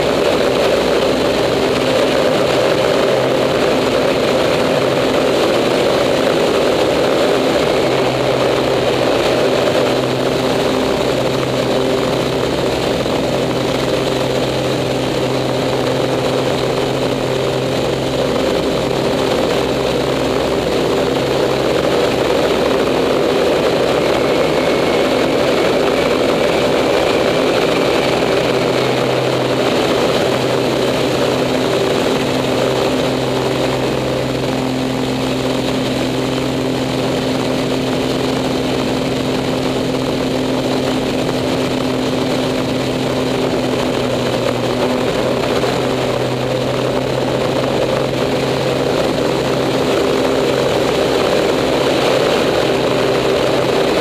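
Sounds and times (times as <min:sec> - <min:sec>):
airflow rush: 0:00.0 - 0:54.0
airplane engine and propeller drone: 0:00.0 - 0:54.0.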